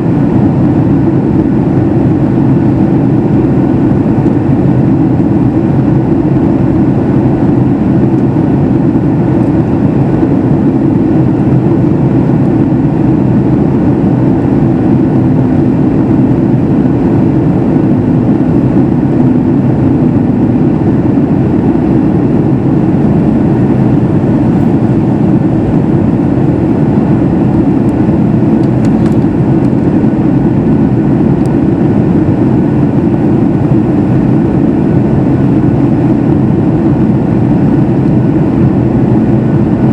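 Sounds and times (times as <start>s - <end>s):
air rushing along fuselage: 0.0s - 39.9s
jet engines in cabin: 0.0s - 39.9s.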